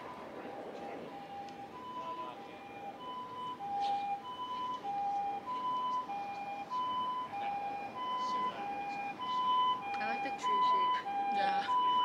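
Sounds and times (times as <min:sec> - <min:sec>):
two-tone ambulance siren: 0:00.0 - 0:12.0.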